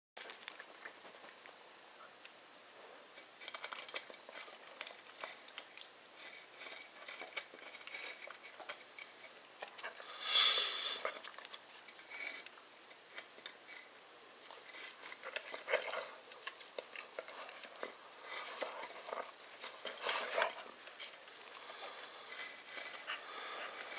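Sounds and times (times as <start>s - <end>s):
puppy gnawing a bone: 0.2s - 23.9s.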